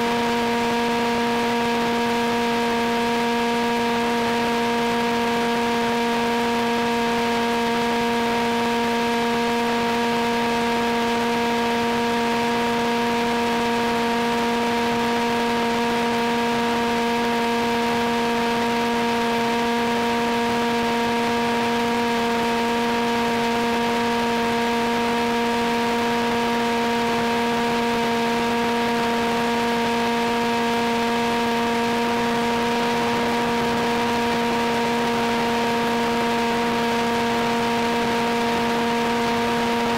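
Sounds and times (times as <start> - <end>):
constant hum: 0.0 - 39.9.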